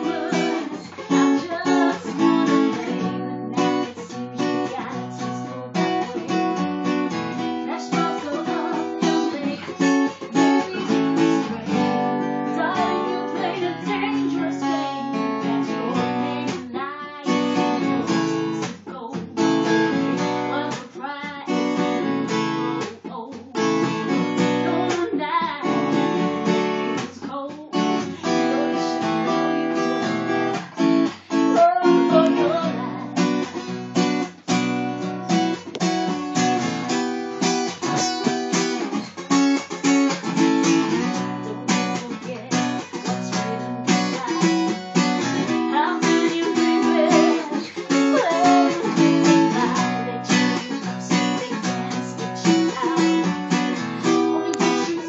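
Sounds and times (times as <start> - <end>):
woman singing into microphone: 0.0 - 33.5, 40.4 - 55.0
acoustic guitar strumming: 0.0 - 55.0.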